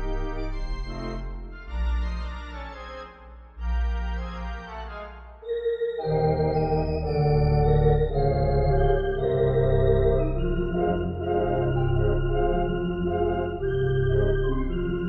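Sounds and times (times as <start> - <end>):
pipe organ chords and melody: 0.0 - 15.0.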